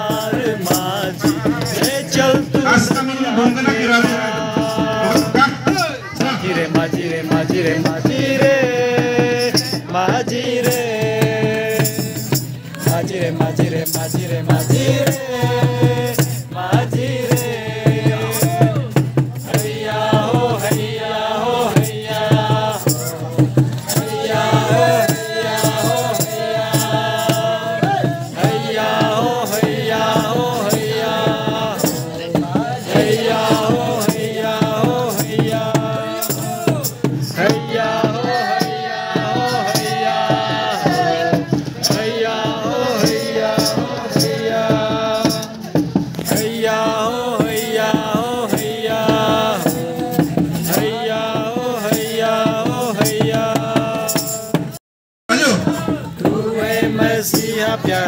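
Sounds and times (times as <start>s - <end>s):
song with singing over beat: 0.0s - 58.0s.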